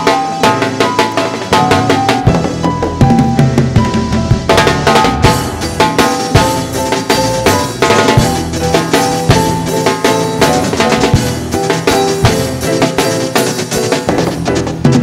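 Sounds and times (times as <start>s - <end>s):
drum kit beat: 0.0s - 15.0s
gospel band music: 0.0s - 15.0s.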